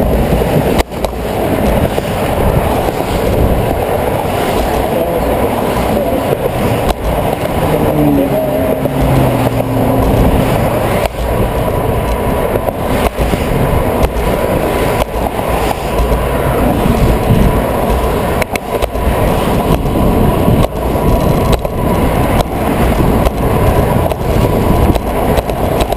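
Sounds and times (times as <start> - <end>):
car traffic passing: 0.0 - 25.9
passing vehicle hum: 0.0 - 25.9
wind buffeting microphone: 0.0 - 25.9.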